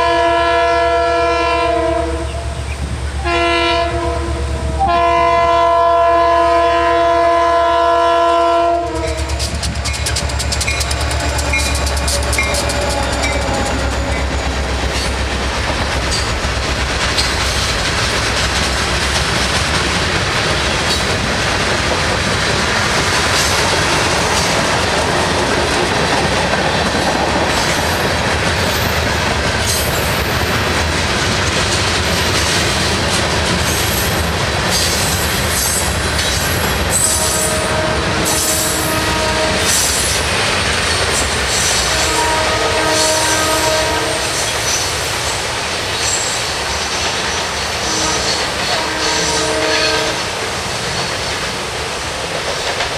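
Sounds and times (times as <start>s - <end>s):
freight train wheels clattering: 8.3s - 52.9s.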